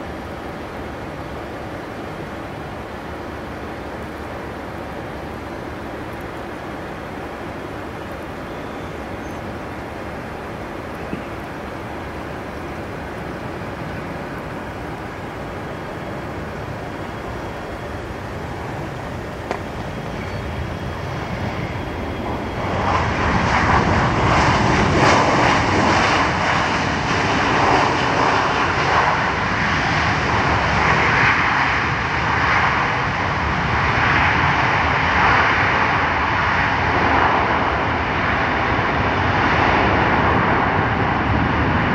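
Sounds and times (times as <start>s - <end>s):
jet engines rushing: 0.0s - 41.9s.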